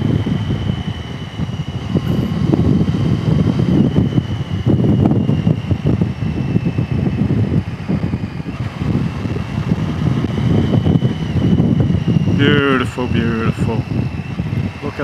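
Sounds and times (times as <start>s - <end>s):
motorcycle engine running: 0.0s - 15.0s
thin high whine: 0.0s - 15.0s
wind buffeting microphone: 0.0s - 15.0s.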